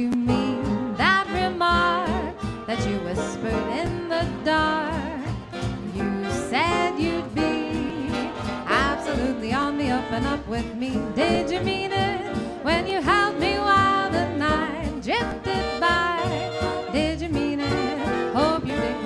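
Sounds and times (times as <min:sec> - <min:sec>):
sliding lead melody: 0:00.0 - 0:19.0
swing jazz band playing: 0:00.0 - 0:19.0.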